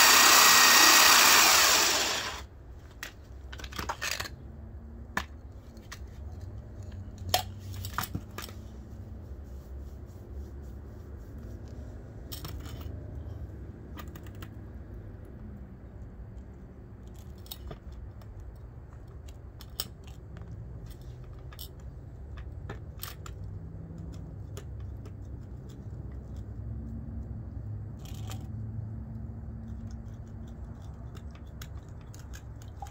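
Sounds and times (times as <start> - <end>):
low outdoor rumble: 2.2 - 32.9.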